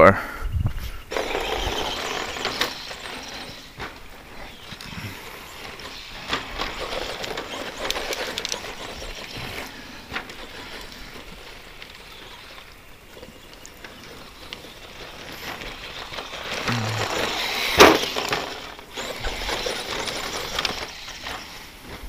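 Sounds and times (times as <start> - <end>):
rc truck electric motor: 1.0 - 22.0.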